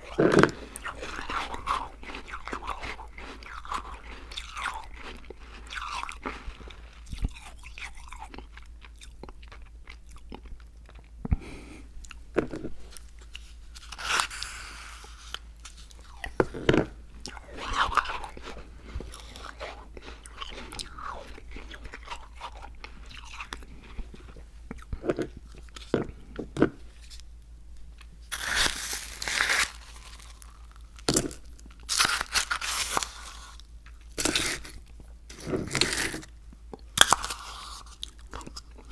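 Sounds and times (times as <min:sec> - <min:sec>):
chewing and crunching slush: 0:00.0 - 0:38.9.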